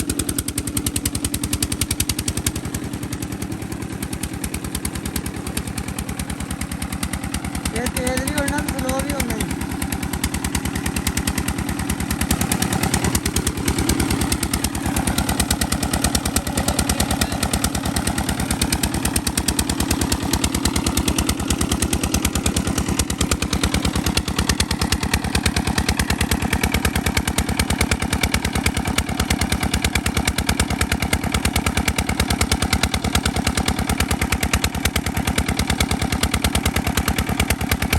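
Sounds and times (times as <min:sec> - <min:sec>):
diesel engine running steadily: 0:00.0 - 0:37.9.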